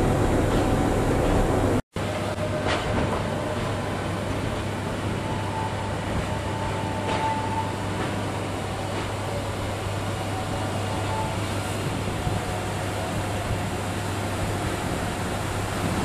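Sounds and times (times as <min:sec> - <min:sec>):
train rumbling with low hum: 0:00.0 - 0:16.0.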